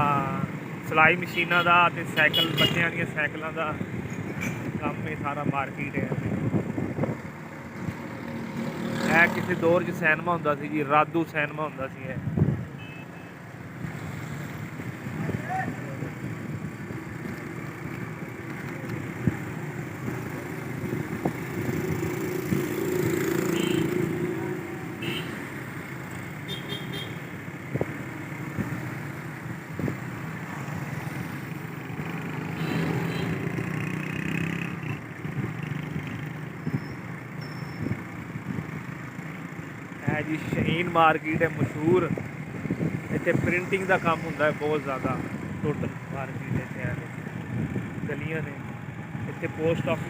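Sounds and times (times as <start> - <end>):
vehicle engines running: 0.0 - 50.0.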